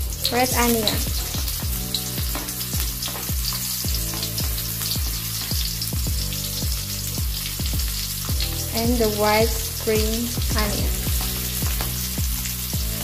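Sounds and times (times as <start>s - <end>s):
background music with drum beat: 0.0s - 13.0s
food sizzling in frying pan: 0.0s - 13.0s.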